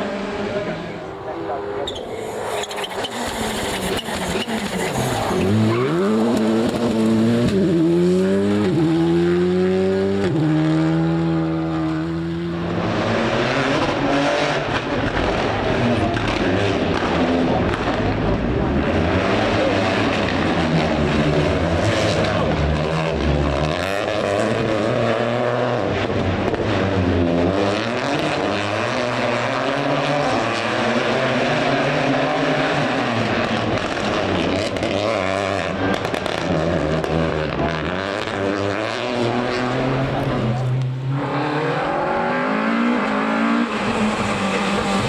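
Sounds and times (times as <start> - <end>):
rally car engine revving: 0.0 - 45.0.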